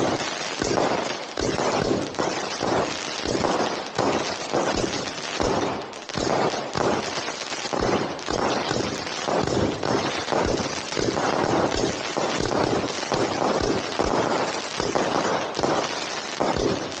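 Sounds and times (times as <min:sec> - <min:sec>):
firework fountain fizzing hiss: 0:00.0 - 0:17.0
firework pops and crackles: 0:00.0 - 0:17.0.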